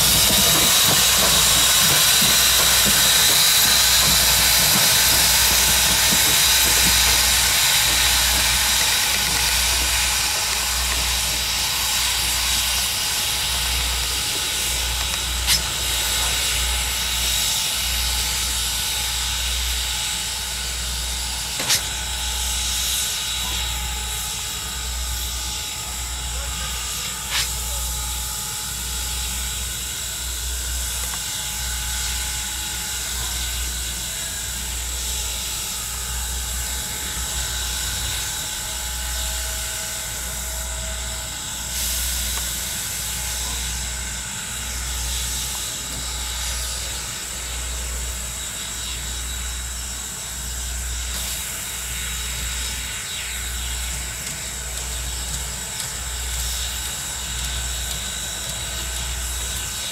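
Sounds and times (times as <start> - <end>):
hiss of steam: 0.0 - 59.9
steam locomotive exhaust beat: 0.0 - 59.9.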